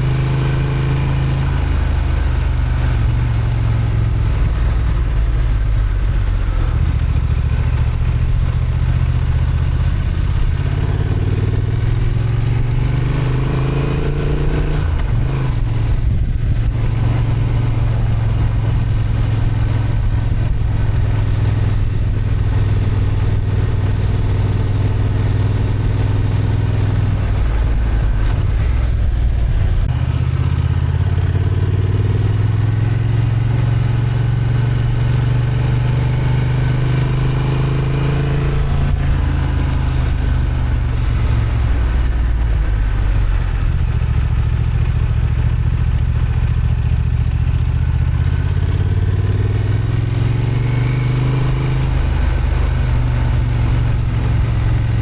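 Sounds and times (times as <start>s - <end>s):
motorcycle engine under load: 0.0s - 55.0s.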